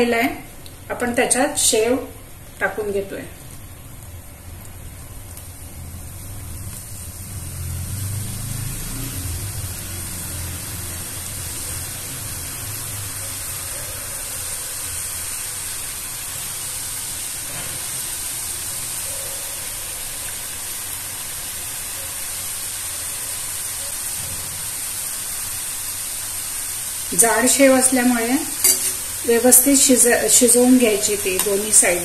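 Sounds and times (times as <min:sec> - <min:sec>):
hot oil sizzling: 0:00.0 - 0:32.0.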